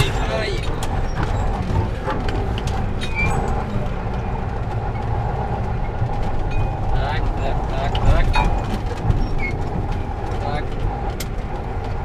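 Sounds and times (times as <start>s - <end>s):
cab rattles and knocks: 0.0s - 12.0s
heavy truck engine running: 0.0s - 12.0s.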